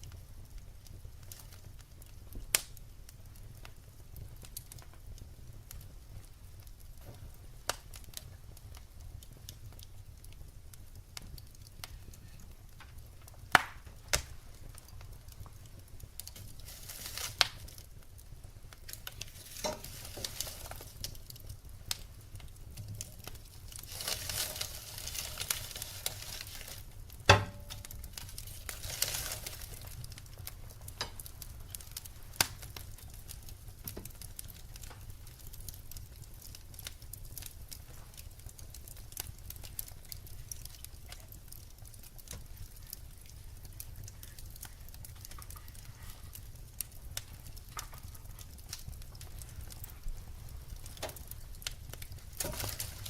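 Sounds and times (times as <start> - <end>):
fire hissing: 0.0 - 53.0
firewood crackling: 0.0 - 53.0
sharp pops of fire: 0.0 - 53.0.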